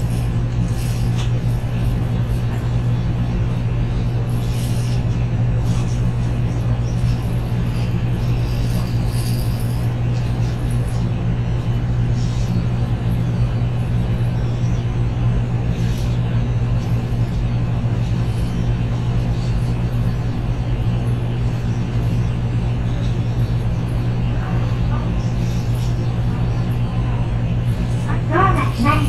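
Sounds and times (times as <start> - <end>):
electric train interior hum: 0.0 - 29.0.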